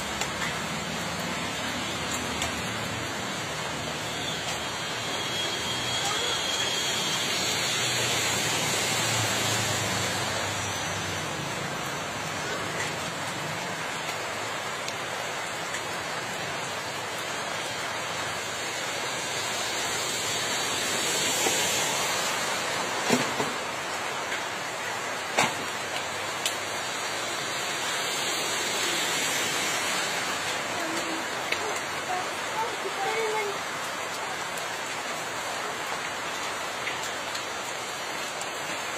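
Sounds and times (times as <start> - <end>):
rain on wet road: 0.0 - 38.9.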